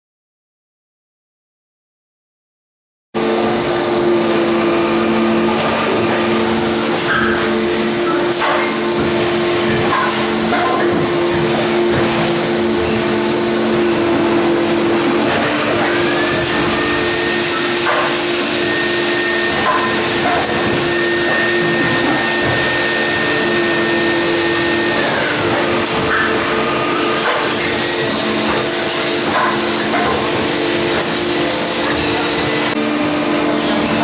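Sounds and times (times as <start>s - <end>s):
high machine whine: 3.2s - 34.0s
hydraulic hum with hiss: 3.2s - 34.0s.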